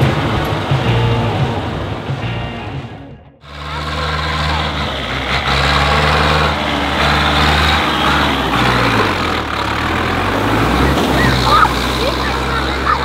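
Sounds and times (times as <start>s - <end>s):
tractor diesel engine under load: 0.0s - 2.6s, 3.4s - 13.0s.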